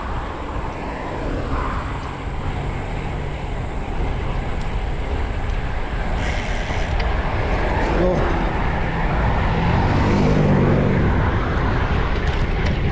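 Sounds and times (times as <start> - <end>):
tyre and road noise: 0.0 - 12.9
wind buffeting microphone: 0.0 - 12.9.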